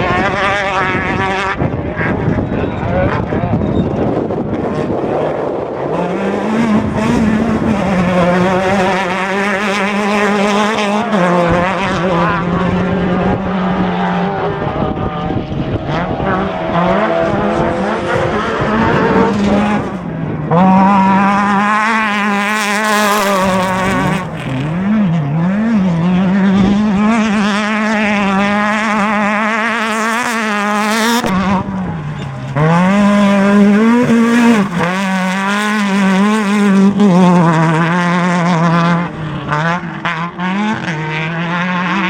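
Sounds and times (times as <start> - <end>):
race car engine at high revs: 0.0 - 42.0.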